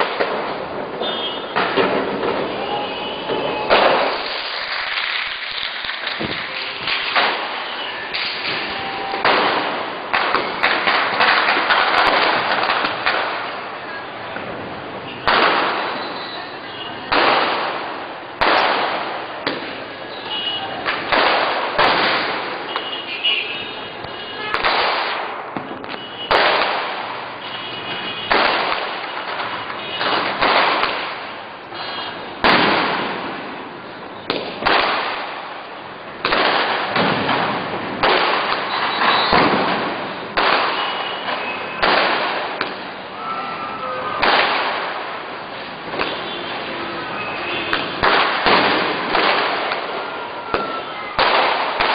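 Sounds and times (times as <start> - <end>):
firecrackers banging with echo: 0.0 - 51.9.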